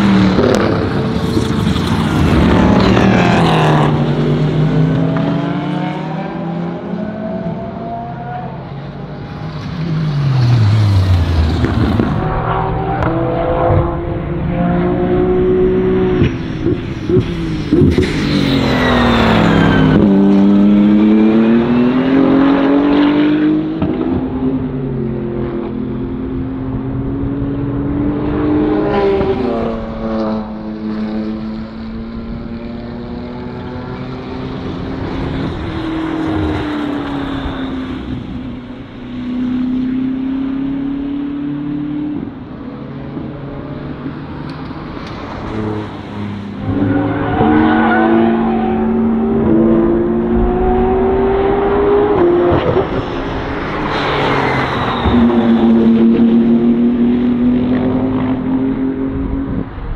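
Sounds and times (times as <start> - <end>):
race cars passing at speed: 0.0 - 59.9.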